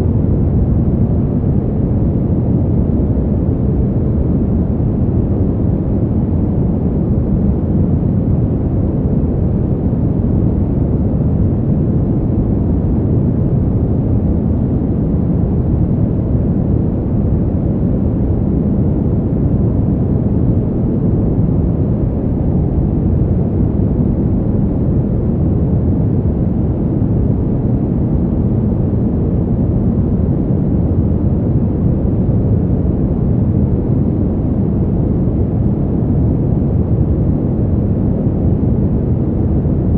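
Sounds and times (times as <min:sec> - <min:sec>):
deep wind rumble: 0:00.0 - 0:39.9.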